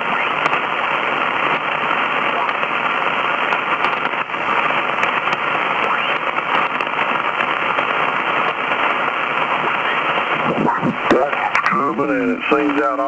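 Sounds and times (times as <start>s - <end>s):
shortwave radio static hiss: 0.0s - 13.0s.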